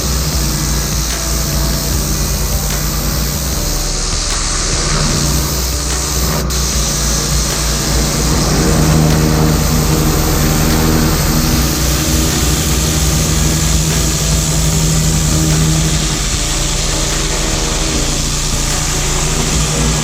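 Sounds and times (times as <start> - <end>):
hiss of water spray: 0.0 - 20.0
petrol engine running: 0.0 - 20.0.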